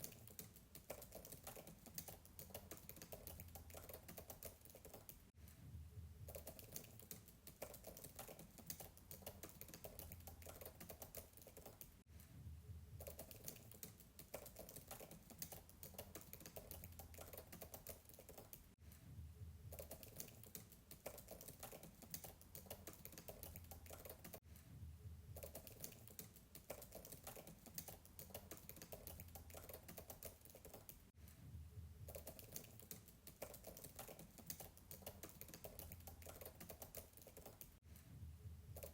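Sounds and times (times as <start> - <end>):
fast typing on keyboard: 0.0 - 5.3, 6.3 - 12.0, 13.0 - 18.8, 19.7 - 24.4, 25.4 - 31.1, 32.1 - 37.8.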